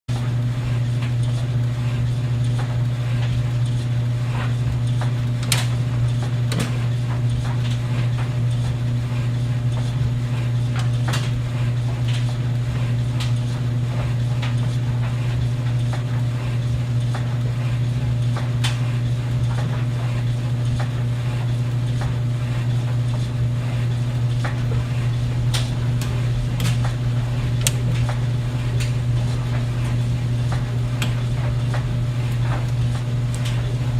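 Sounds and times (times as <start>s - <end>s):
clothes dryer humming: 0.1s - 33.9s.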